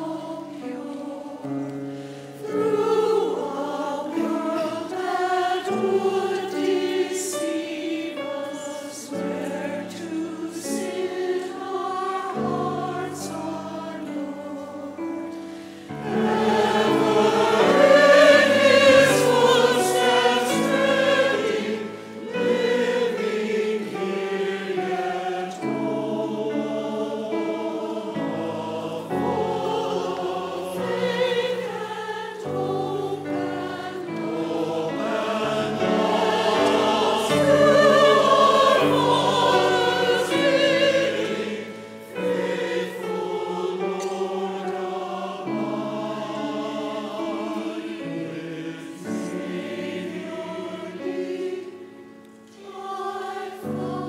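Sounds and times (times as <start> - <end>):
church choir singing: 0.0 - 54.0
piano accompaniment: 0.0 - 54.0.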